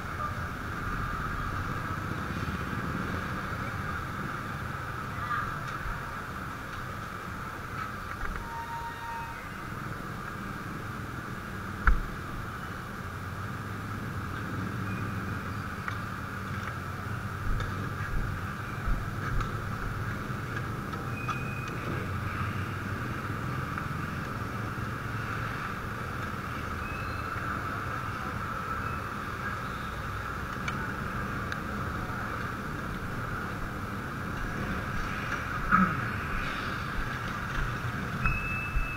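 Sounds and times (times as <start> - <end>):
muffled vehicle engine: 0.0 - 8.5, 9.5 - 38.9.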